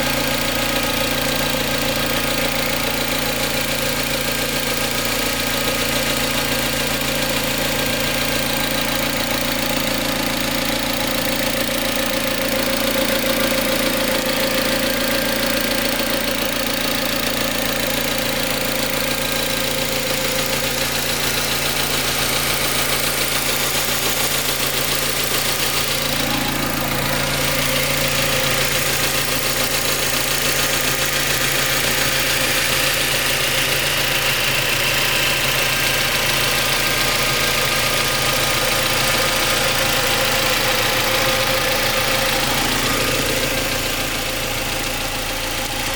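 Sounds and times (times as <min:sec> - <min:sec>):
car engine idling with rattle: 0:00.0 - 0:45.9.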